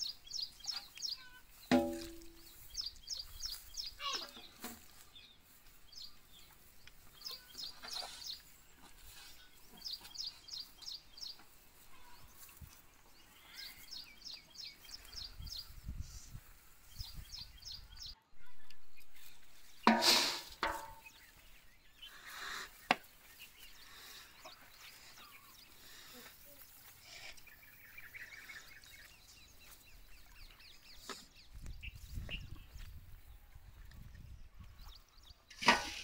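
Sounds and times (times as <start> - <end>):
small bird chirping song: 0.0 - 19.9, 20.8 - 35.5.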